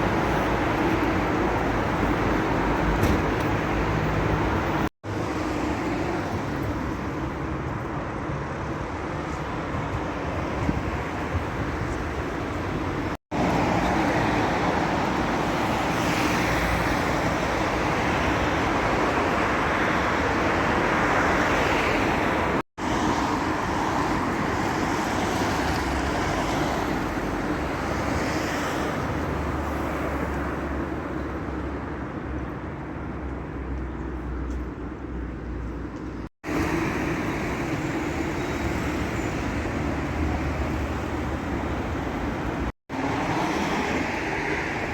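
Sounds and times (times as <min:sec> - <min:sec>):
passing cars: 0:00.0 - 0:44.9.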